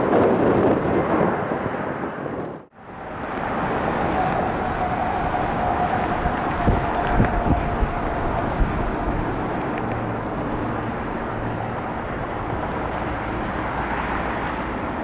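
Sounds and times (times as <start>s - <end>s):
jet engine noise: 0.0s - 15.0s
wind buffeting microphone: 0.0s - 15.0s
thin steady whine: 2.8s - 15.0s.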